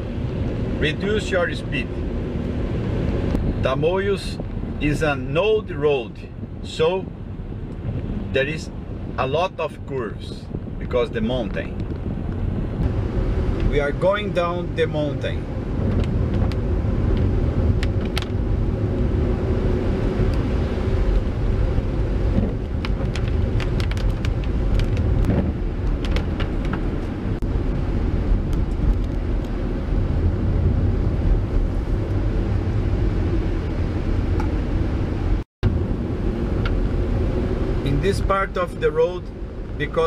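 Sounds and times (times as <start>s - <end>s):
car driving on wet road: 0.0s - 40.0s.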